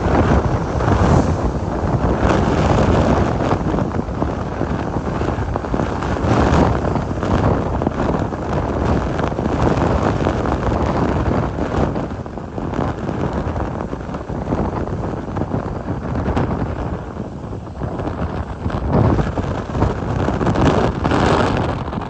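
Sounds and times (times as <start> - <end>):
hurricane wind gusts: 0.0 - 22.0.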